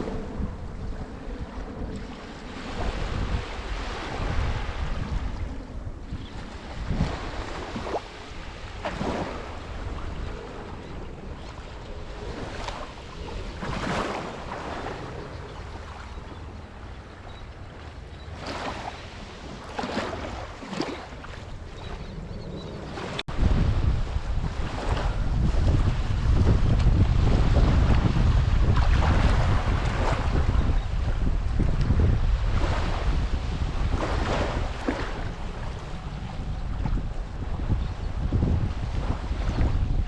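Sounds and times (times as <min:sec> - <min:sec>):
wind rumbling on microphone: 0:00.0 - 0:40.0
waves breaking on beach: 0:01.2 - 0:16.3, 0:18.3 - 0:22.1, 0:22.9 - 0:40.0.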